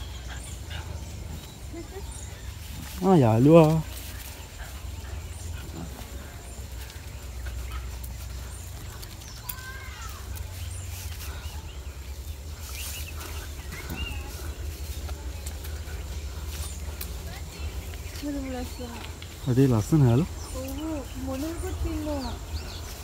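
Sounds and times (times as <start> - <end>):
faint bird calls: 0.0 - 23.0
steady low rumble: 0.0 - 23.0.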